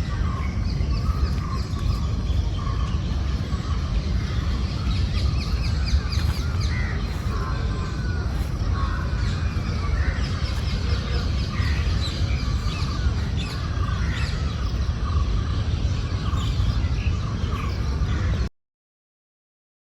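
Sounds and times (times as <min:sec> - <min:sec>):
birds chirping and calling: 0:00.0 - 0:18.5
steady low rumble: 0:00.0 - 0:18.5.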